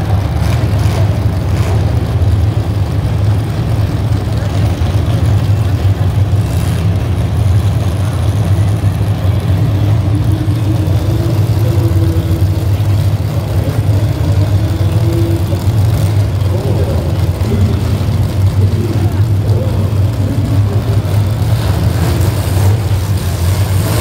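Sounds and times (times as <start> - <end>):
car engines idling: 0.0 - 24.0.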